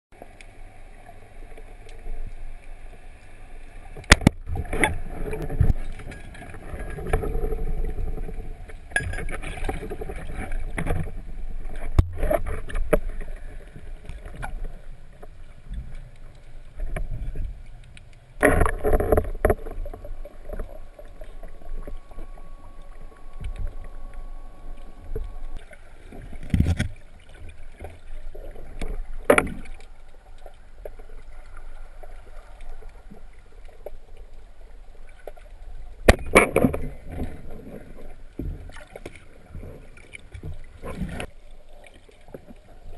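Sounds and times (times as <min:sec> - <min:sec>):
water sloshing and splashing: 0:00.2 - 0:42.9.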